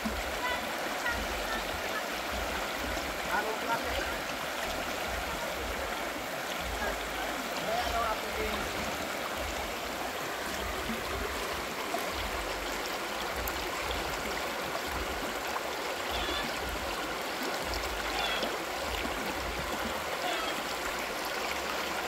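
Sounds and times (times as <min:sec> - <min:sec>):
stream rushing over stones: 0:00.0 - 0:22.0.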